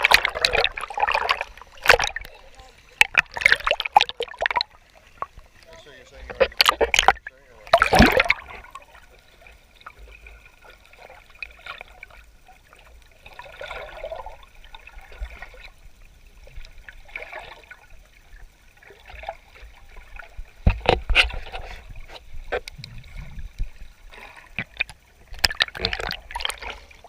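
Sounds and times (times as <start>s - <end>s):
water lapping and trickling: 0.0s - 27.0s
water splashing: 0.0s - 27.0s.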